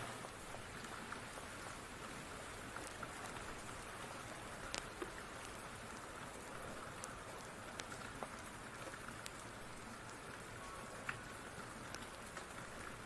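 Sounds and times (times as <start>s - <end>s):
steady rain: 0.0s - 13.0s
wood fire popping and crackling: 0.0s - 13.0s.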